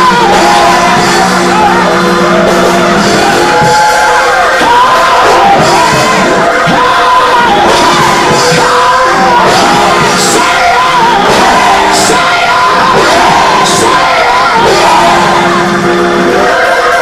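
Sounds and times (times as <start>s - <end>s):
congregation shouting: 0.0s - 17.0s
gospel band playing: 0.0s - 17.0s.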